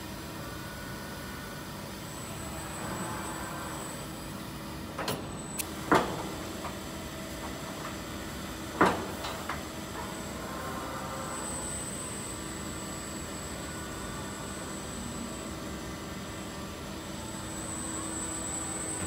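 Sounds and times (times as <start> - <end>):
factory machinery hum: 0.0 - 19.0.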